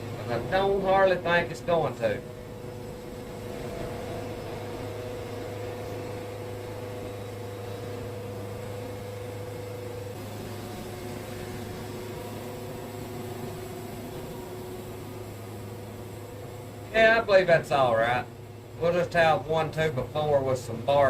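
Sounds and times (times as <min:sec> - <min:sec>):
band sawmill cutting log: 0:00.0 - 0:21.0.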